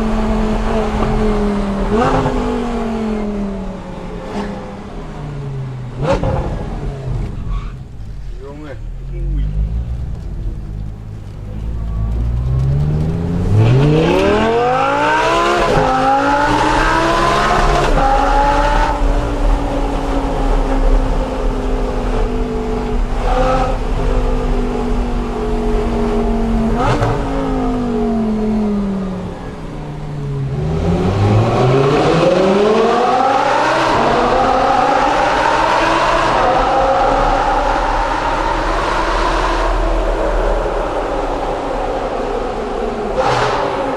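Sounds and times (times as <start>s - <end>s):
car engine accelerating hard: 0.0s - 43.9s.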